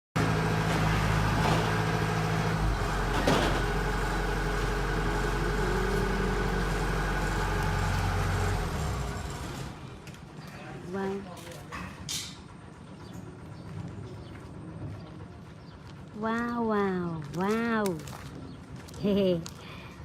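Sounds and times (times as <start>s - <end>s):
heavy vehicle engine running: 0.2s - 17.3s.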